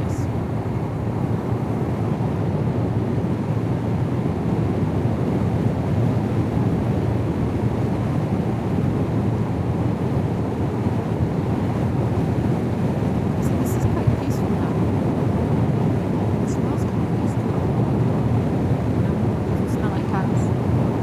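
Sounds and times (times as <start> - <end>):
motorcycle wind and road noise: 0.0 - 21.0.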